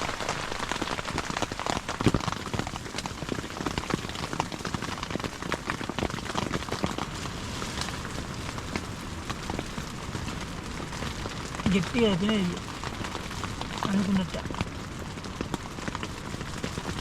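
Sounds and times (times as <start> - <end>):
heavy rain on a tent: 0.0 - 17.0.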